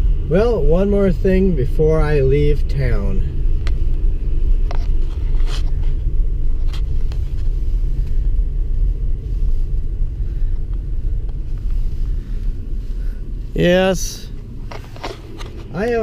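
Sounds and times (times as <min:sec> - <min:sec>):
road noise: 0:00.0 - 0:16.0
truck engine rumble: 0:00.0 - 0:16.0.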